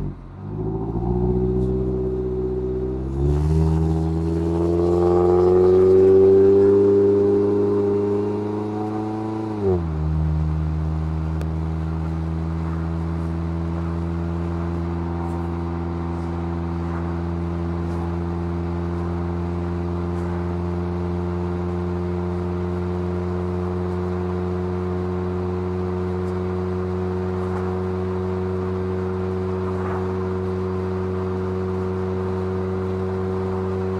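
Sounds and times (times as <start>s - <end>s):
car engine: 0.0s - 33.9s.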